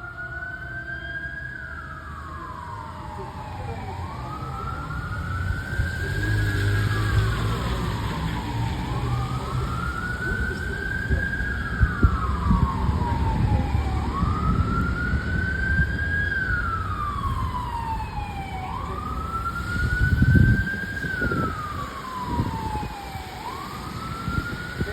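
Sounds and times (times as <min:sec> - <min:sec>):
mechanical siren wailing: 0:00.0 - 0:24.9.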